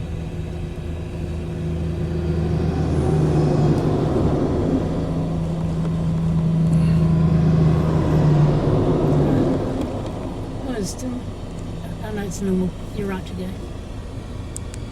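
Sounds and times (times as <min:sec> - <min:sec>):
heavy truck passing: 0:00.0 - 0:13.5.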